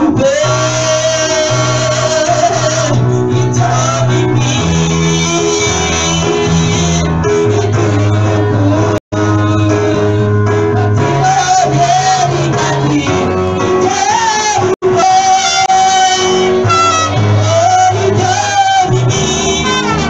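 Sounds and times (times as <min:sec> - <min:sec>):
band with held bass notes: 0:00.0 - 0:20.0
gospel voices singing: 0:00.0 - 0:20.0.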